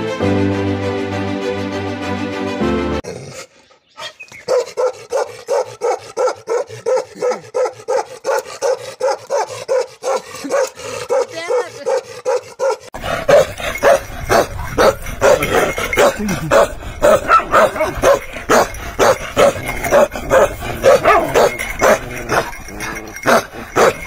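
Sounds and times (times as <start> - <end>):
dog barking rapidly: 4.0 - 22.5, 23.2 - 24.0.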